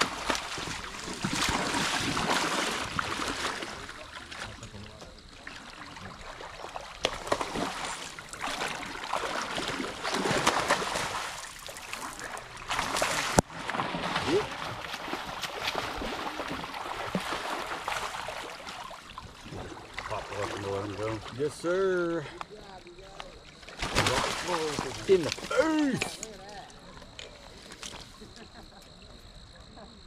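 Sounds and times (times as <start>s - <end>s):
river water splashing: 0.0s - 29.2s.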